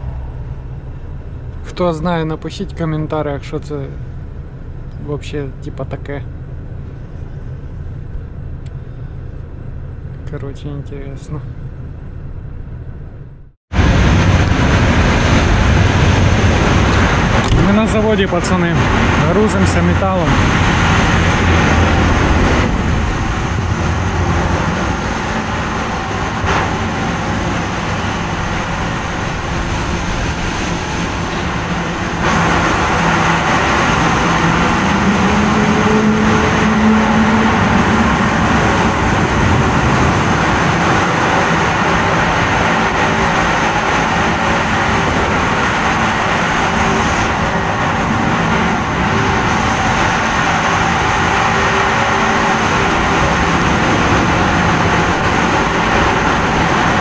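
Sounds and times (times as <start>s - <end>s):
heavy machinery drone: 0.0s - 57.0s
rising whine: 0.0s - 57.0s.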